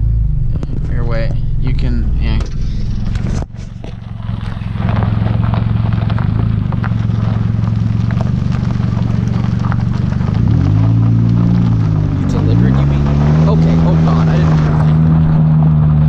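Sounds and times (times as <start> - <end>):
car engine pulling: 0.0 - 16.0
stones crackling under tyres: 0.5 - 16.0.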